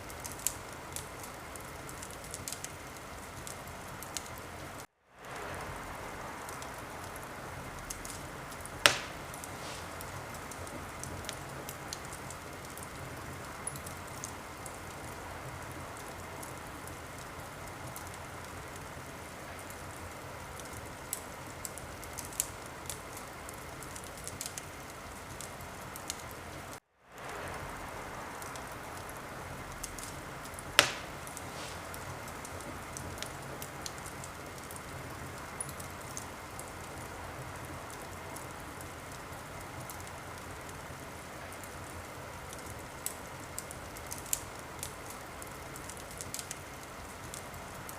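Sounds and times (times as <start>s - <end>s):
soft steady hiss: 0.0s - 47.9s
wood fire crackling: 0.0s - 47.9s.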